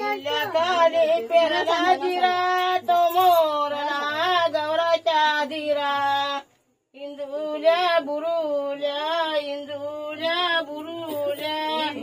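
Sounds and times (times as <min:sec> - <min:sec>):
women singing folk song together: 0:00.0 - 0:12.0.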